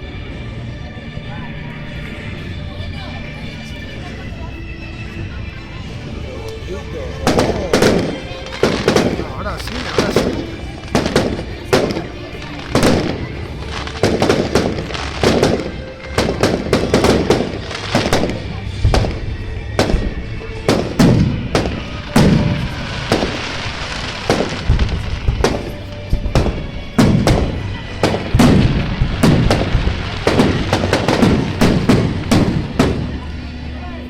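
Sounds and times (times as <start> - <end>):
fireworks bangs and crackles: 5.8 - 34.0.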